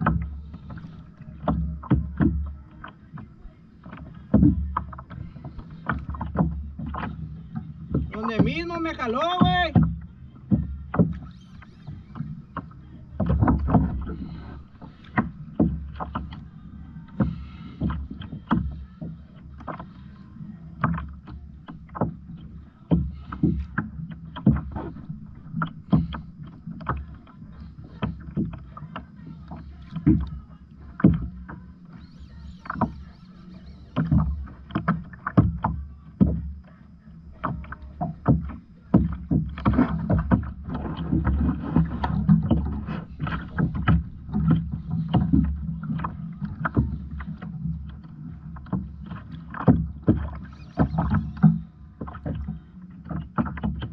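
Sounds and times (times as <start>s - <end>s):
water slapping against kayak hull: 0.0s - 53.9s.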